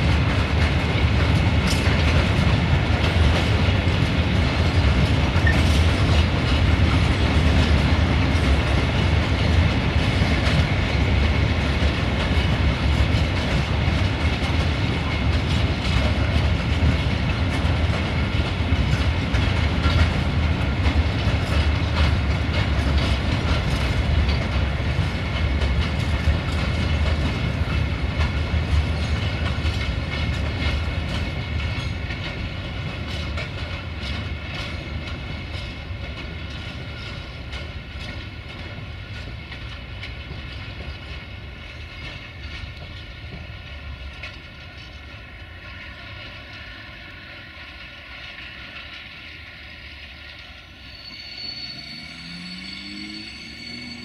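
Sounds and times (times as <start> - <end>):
wheels clacking on rail joints: 0.0 - 49.2
freight train wheels rumbling: 0.0 - 54.0.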